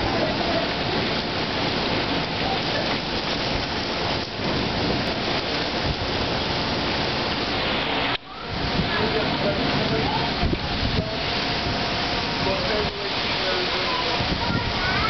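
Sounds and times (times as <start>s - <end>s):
wind buffeting the microphone: 0.0s - 15.0s.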